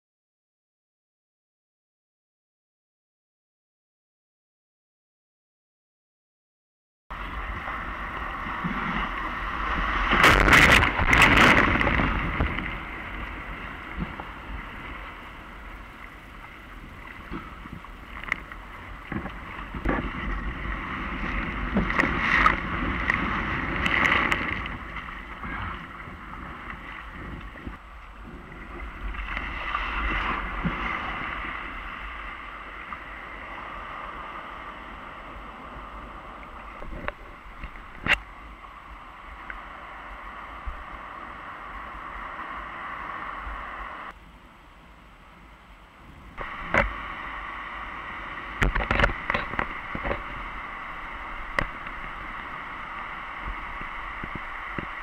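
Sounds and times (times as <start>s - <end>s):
water rushing and splashing: 7.1s - 55.0s
breaking whitewater surges: 7.2s - 27.8s, 28.4s - 44.2s, 46.4s - 55.0s.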